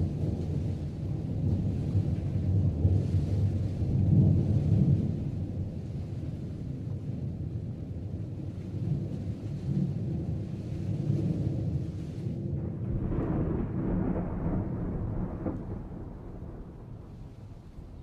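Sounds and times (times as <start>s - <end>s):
thunder rumbling: 0.0s - 18.0s.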